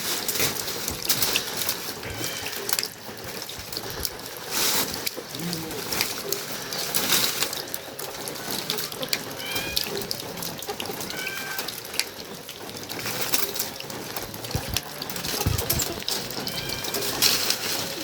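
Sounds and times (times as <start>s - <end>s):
rain falling: 0.0s - 18.0s
sharp water drips: 0.0s - 18.0s.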